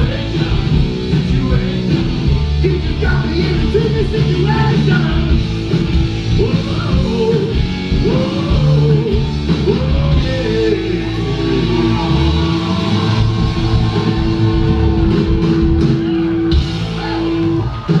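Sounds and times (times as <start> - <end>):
drums: 0.0 - 18.0
electric guitars: 0.0 - 18.0.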